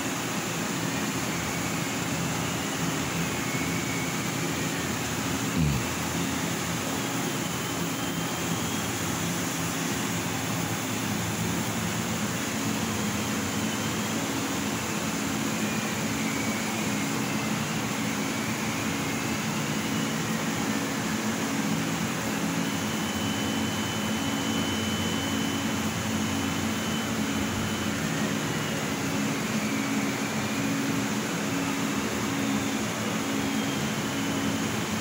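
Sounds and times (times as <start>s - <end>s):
laser cutter mechanical hum: 0.0s - 35.0s.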